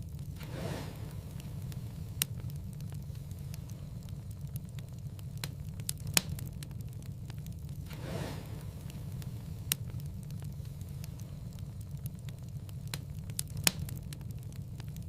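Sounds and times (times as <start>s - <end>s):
sharp pops and snaps of fire: 0.0s - 15.0s
wood fire crackling: 0.0s - 15.0s.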